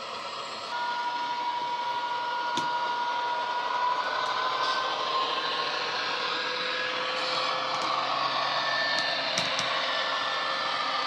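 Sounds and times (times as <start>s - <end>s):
engine whine: 0.0s - 11.0s
model train diesel engine sound: 0.0s - 11.0s.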